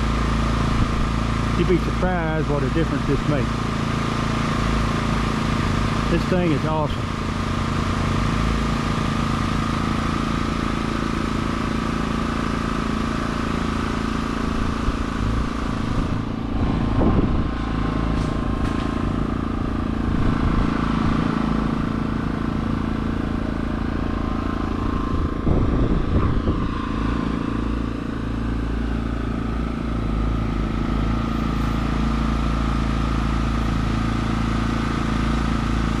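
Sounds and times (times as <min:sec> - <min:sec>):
air conditioner motor hum: 0:00.0 - 0:36.0.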